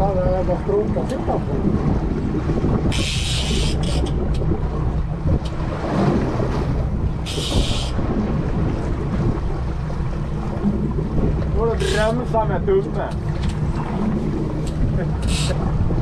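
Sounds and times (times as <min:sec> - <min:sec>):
boat engine running: 0:00.0 - 0:16.0
water noise around hull: 0:00.0 - 0:16.0
wind buffeting microphone: 0:00.0 - 0:16.0.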